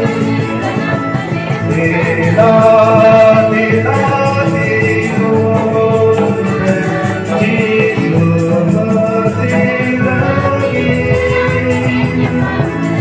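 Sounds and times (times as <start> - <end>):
gospel song: 0.0 - 13.0
light percussion beat: 0.0 - 13.0
person singing: 0.0 - 13.0.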